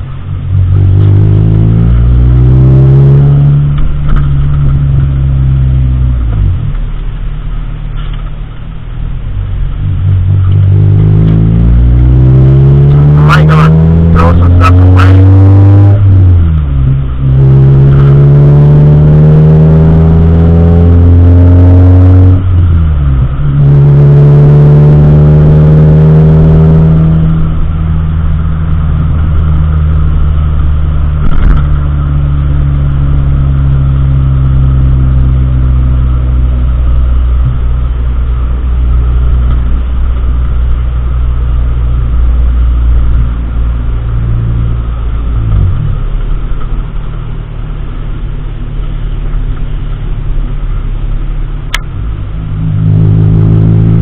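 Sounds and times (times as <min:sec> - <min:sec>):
car engine accelerating: 0:00.0 - 0:54.0
road rumble: 0:00.0 - 0:54.0.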